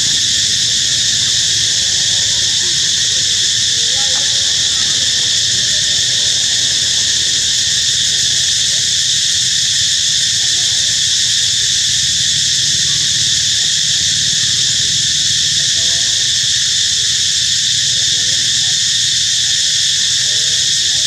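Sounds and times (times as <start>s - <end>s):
insects buzzing: 0.0s - 21.0s.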